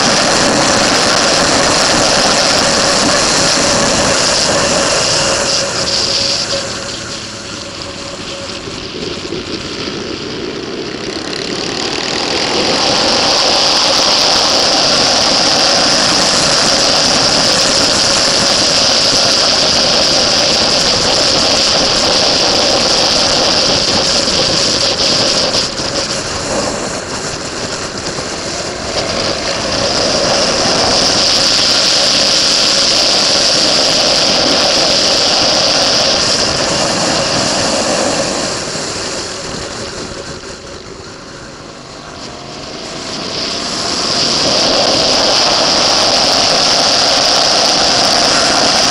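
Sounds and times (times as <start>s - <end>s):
motorcycle engine under load: 0.0s - 48.9s
rush of wind: 0.0s - 48.9s.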